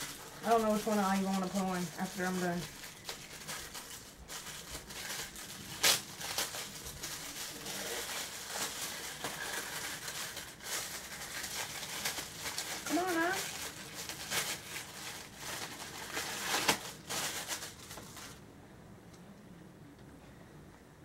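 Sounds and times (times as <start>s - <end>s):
plastic packaging crinkling: 0.0s - 18.4s.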